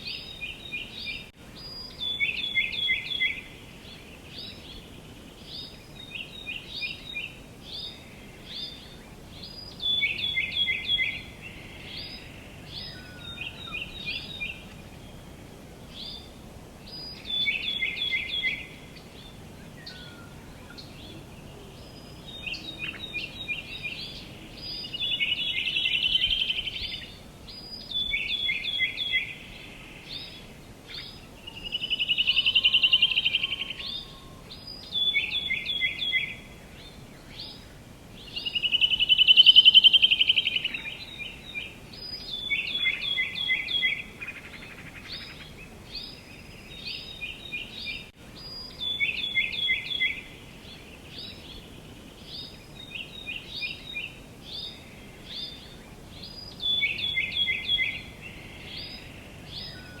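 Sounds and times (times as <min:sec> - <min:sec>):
faint outdoor background hiss: 0:00.0 - 1:00.0
songbirds chirping: 0:00.0 - 1:00.0.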